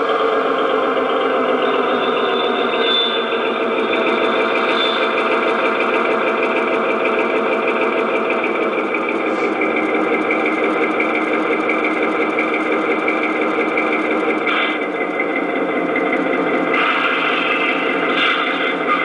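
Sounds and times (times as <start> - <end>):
diesel engine sound from small speaker: 0.0 - 19.0.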